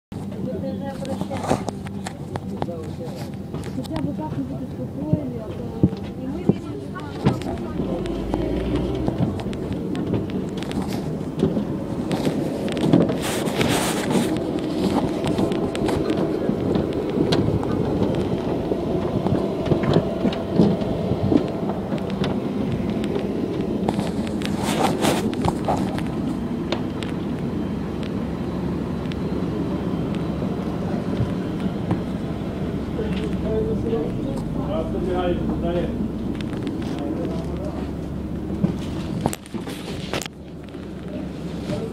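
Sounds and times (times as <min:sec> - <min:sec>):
aircraft rumble: 0:00.1 - 0:41.9.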